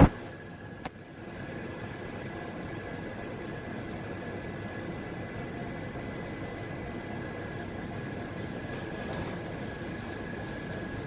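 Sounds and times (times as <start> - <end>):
electric train hum: 0.0 - 11.0.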